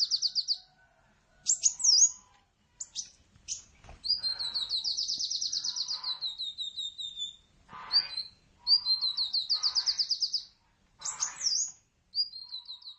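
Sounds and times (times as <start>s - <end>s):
bird singing high trills: 0.0s - 0.6s, 2.8s - 12.9s.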